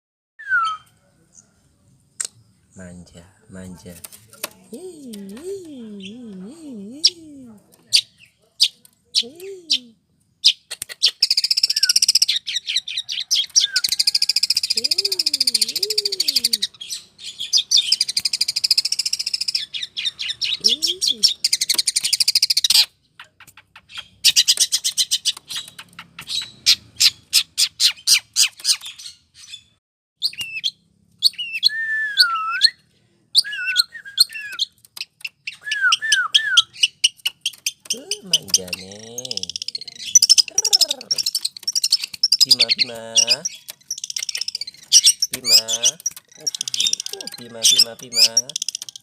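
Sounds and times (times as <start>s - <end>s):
bird chattering and whistling: 7.9s - 32.8s, 33.4s - 49.0s.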